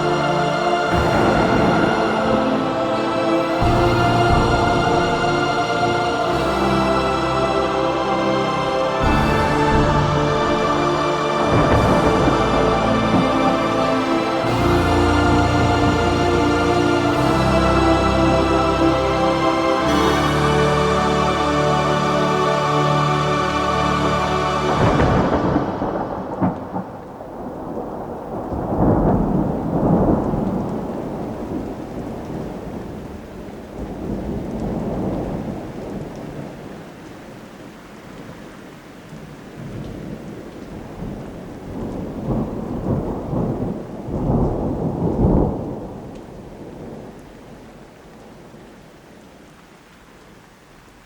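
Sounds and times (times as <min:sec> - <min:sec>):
rolling thunder: 0:00.0 - 0:20.2, 0:24.6 - 0:38.4, 0:39.0 - 0:48.7
steady rain: 0:00.0 - 0:51.0.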